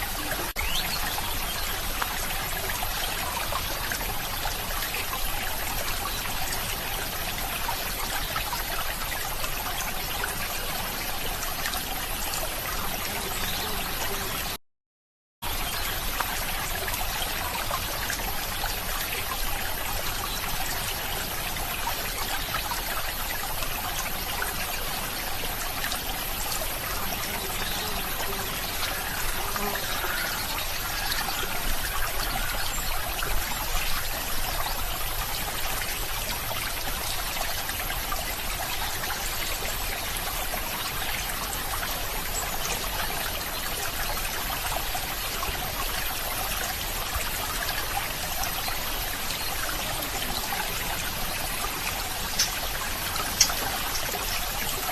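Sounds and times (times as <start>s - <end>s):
stream flowing over stones: 0.0s - 14.6s, 15.4s - 54.9s.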